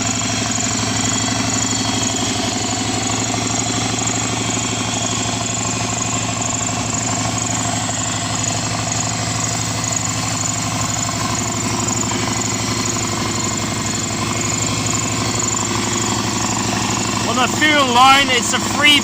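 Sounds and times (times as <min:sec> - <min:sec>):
turbo engine idling: 0:00.0 - 0:19.0.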